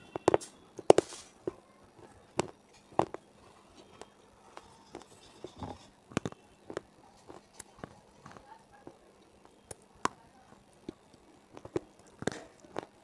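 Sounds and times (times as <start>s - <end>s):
sharp crunching of hard pieces: 0.0s - 3.3s, 4.0s - 13.0s.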